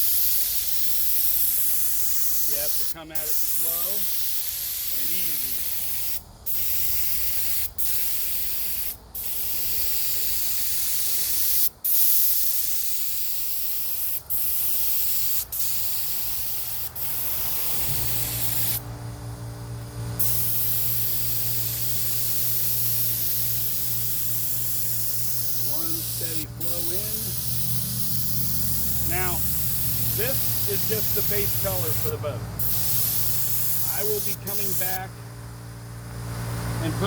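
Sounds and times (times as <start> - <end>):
air compressor motor hum: 0.0 - 37.0
paint spray gun hissing: 0.0 - 37.0.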